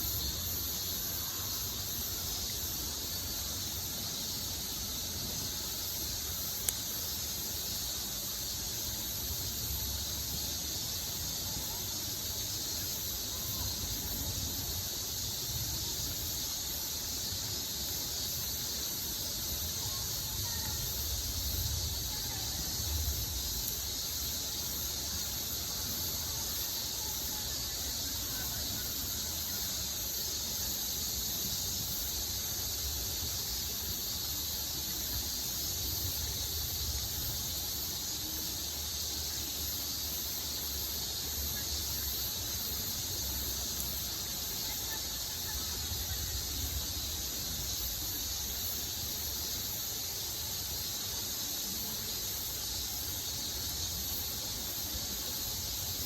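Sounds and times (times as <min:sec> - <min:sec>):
high-pitched hiss: 0:00.0 - 0:56.0.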